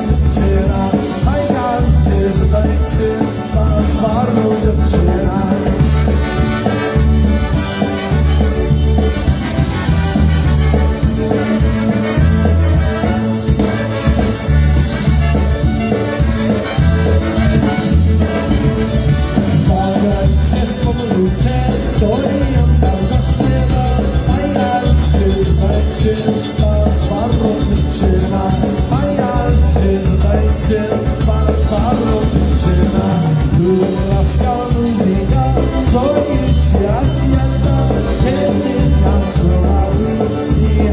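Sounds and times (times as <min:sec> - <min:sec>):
polka band with brass and clarinet: 0:00.0 - 0:40.9.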